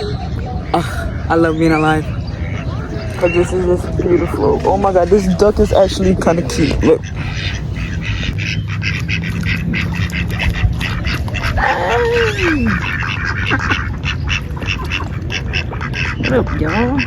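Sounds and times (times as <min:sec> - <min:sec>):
ducks quacking: 0:00.0 - 0:17.0.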